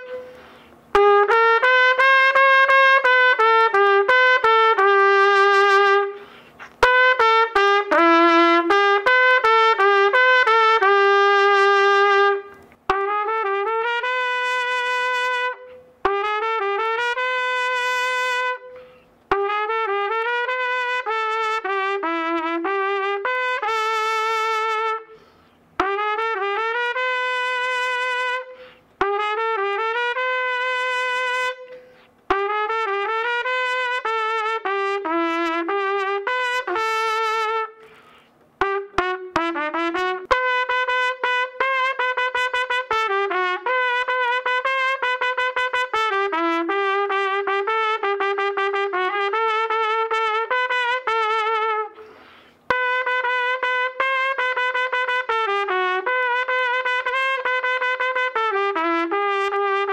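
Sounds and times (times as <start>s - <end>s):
trumpet playing melody: 0.0s - 59.9s.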